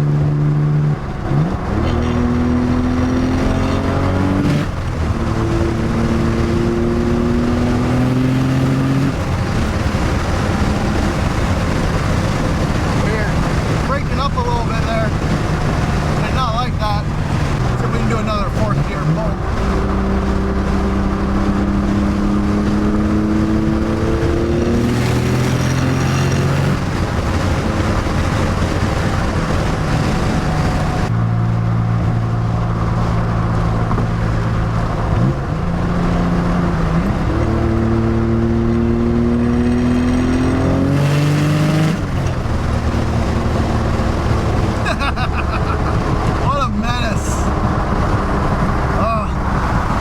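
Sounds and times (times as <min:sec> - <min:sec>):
car engine accelerating: 0:00.0 - 0:50.0.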